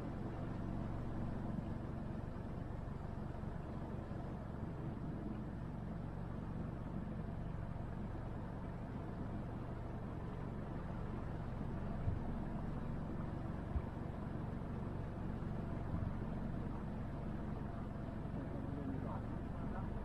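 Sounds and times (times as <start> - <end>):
motorboat engine rumbling: 0.0 - 20.0.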